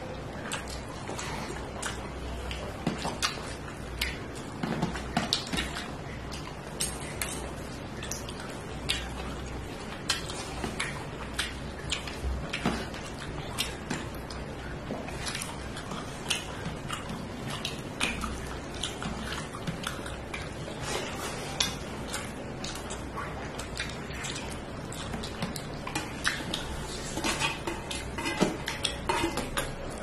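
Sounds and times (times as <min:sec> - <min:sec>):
eating clicks and scrapes on plate: 0:00.1 - 0:30.0.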